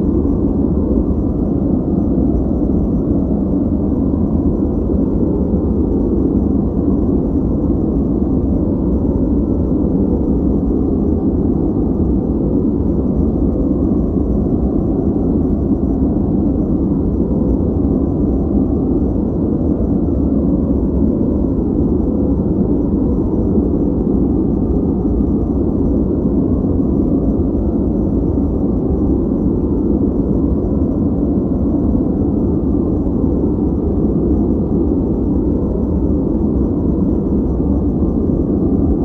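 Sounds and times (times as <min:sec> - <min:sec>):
deep steady synthetic noise: 0:00.0 - 0:39.0.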